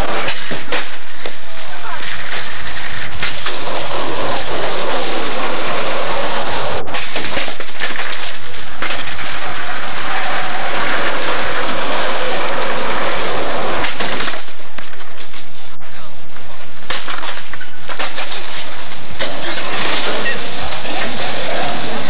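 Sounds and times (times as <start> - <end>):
skateboard wheels rolling on concrete: 0.0 - 22.0.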